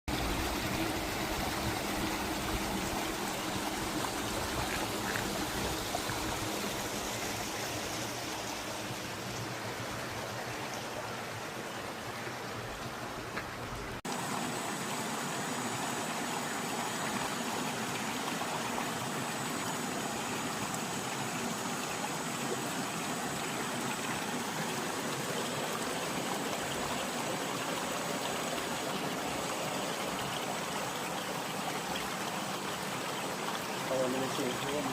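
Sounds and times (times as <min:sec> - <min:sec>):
stream of water running: 0:00.1 - 0:34.9.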